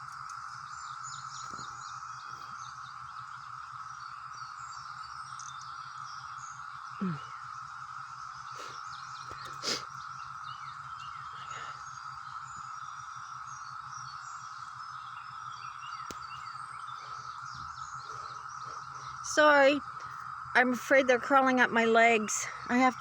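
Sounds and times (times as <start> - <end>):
cicada chorus drone: 0.0 - 23.0
birds chirping and singing: 0.1 - 23.0.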